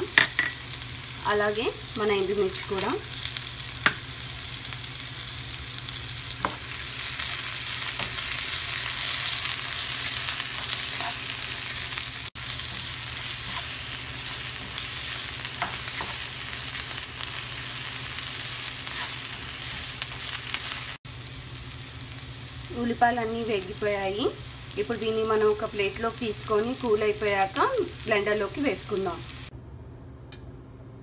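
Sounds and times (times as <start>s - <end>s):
onions sizzling in oil: 0.0s - 29.5s.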